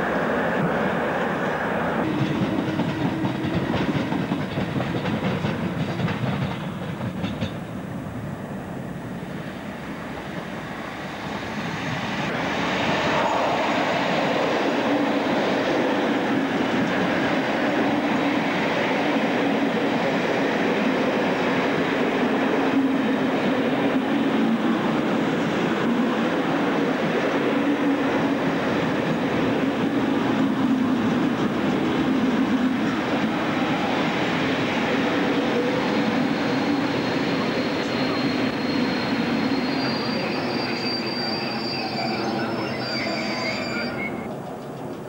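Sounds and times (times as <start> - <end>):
train passing: 0.0 - 45.0.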